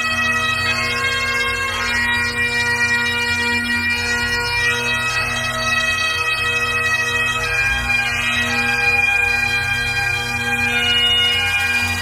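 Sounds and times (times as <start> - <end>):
bagpipes playing slow melody: 0.0 - 12.0.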